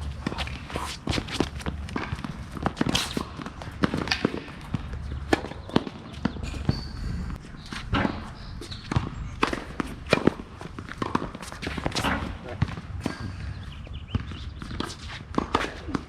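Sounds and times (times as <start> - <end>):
rackets striking tennis ball: 0.1 - 7.0, 7.7 - 16.0
ball bouncing on court: 0.2 - 6.9, 7.9 - 13.1, 14.0 - 16.0.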